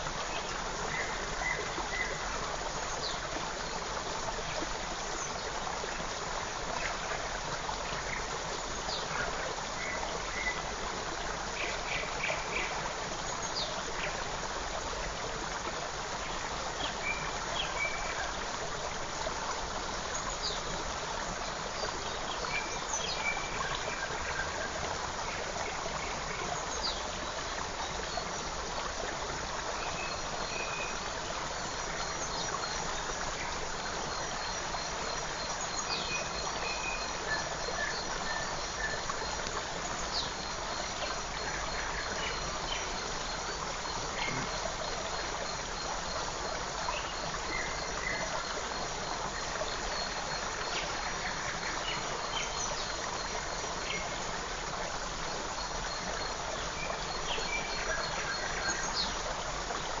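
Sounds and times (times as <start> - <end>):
creek babbling: 0.0 - 60.0.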